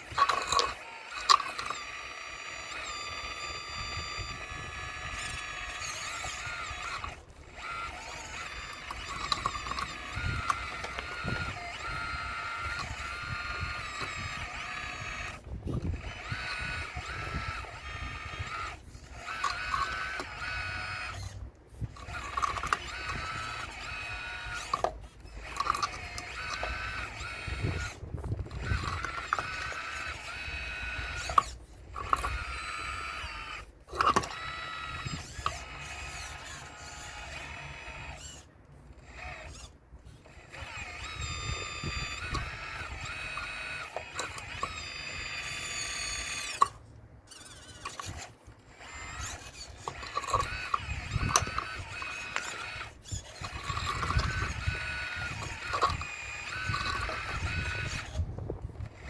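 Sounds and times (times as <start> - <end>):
model excavator motors whining: 0.0 - 59.0.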